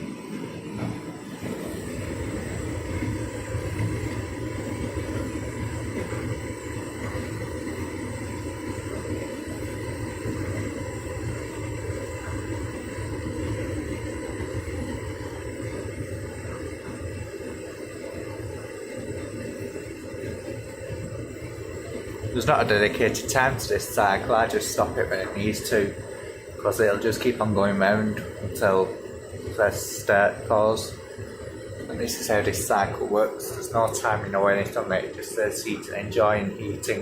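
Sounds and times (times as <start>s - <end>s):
tumble dryer running: 0.0s - 37.0s.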